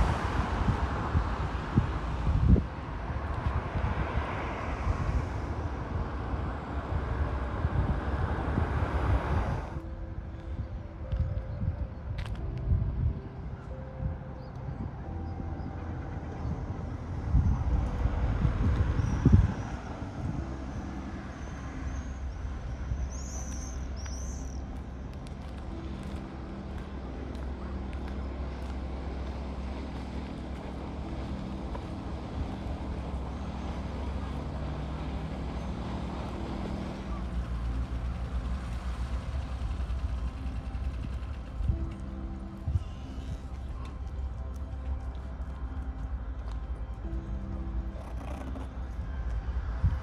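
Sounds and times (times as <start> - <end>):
steady outdoor rumble: 0.0 - 50.0
wind buffeting microphone: 0.0 - 50.0.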